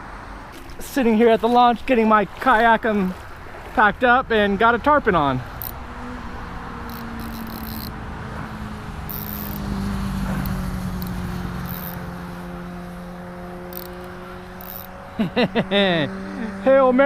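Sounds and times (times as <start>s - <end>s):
motor engine humming: 0.0s - 17.0s.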